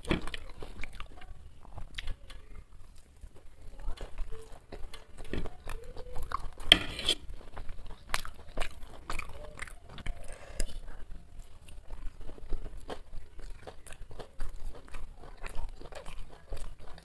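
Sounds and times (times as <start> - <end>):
chewing and mouth smacks: 0.0 - 17.0.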